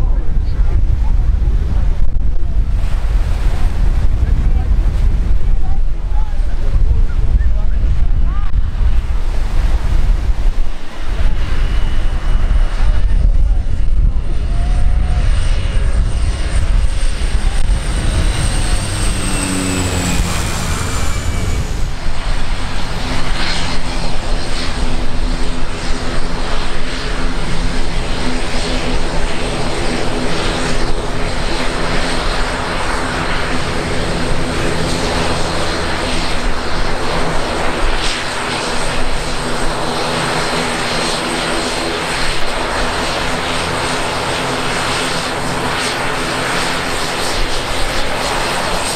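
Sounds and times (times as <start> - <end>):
aircraft engines passing: 0.0 - 48.9
constant low hum: 0.0 - 48.9.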